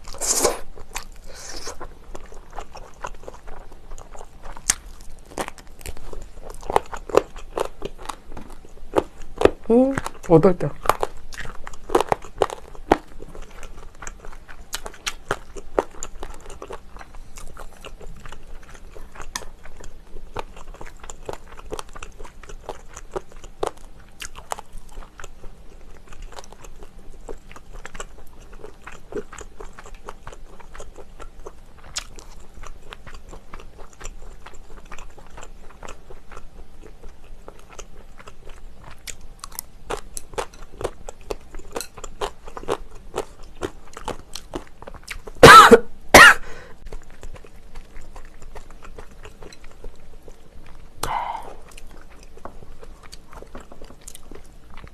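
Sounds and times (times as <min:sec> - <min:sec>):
wet chewing and mouth clicks: 0:00.0 - 0:45.4, 0:46.8 - 0:54.9.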